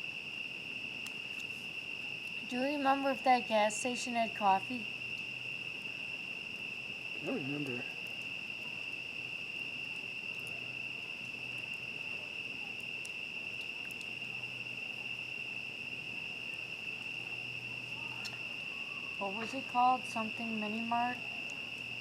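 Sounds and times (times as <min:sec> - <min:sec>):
campfire crackles: 0:00.0 - 0:22.0
crickets trilling: 0:00.0 - 0:22.0.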